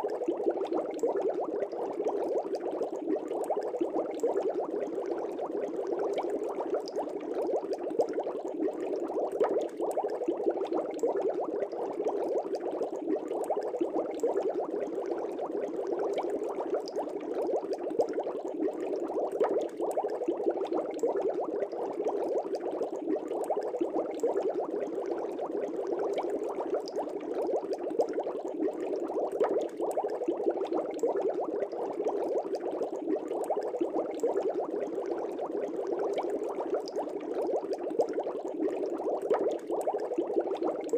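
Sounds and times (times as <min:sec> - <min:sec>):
air bubbles in fish tank: 0:00.0 - 0:40.9.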